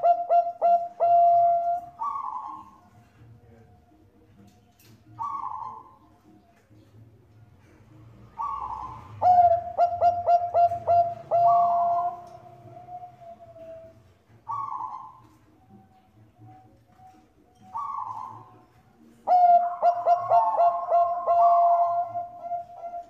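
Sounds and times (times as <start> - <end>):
dove cooing and singing: 0.0 - 23.0.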